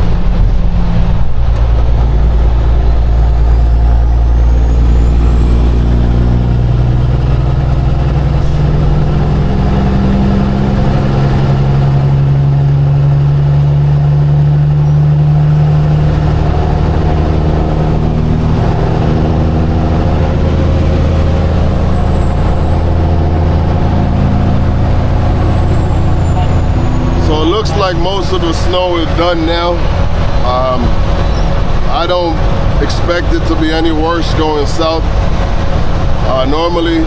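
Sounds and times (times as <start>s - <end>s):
diesel truck engine running: 0.0s - 37.0s
road noise: 0.0s - 37.0s.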